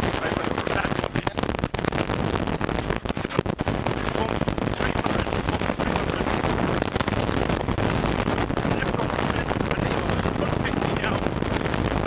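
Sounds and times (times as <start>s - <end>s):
sharp crackles and pops: 0.0s - 12.0s.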